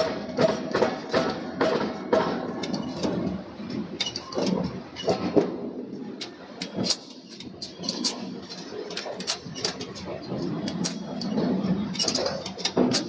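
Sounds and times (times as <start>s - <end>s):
metallic clanks and knocks: 0.4s - 5.3s, 6.2s - 13.0s.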